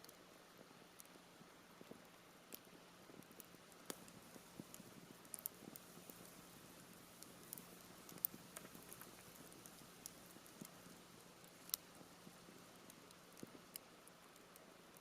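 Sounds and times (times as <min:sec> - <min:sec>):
campfire crackling: 0:00.0 - 0:15.0
faint steady hiss: 0:00.0 - 0:15.0
sharp pops and snaps: 0:00.9 - 0:15.0.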